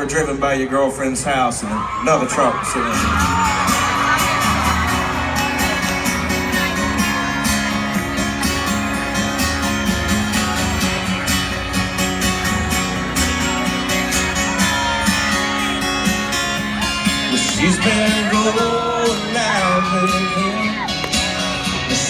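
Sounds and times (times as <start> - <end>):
guitar: 1.7 - 22.0.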